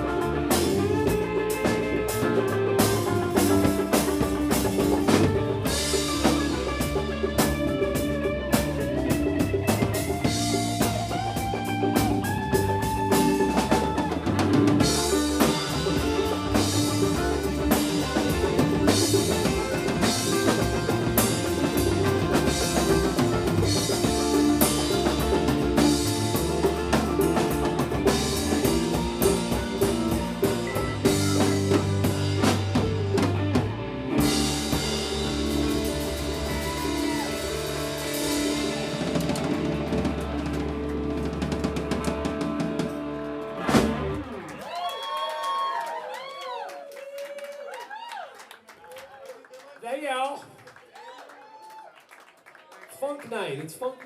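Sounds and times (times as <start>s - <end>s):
bass line: 0.0s - 44.8s
drum kit beat: 0.0s - 44.8s
live funk-rock band: 0.0s - 45.8s.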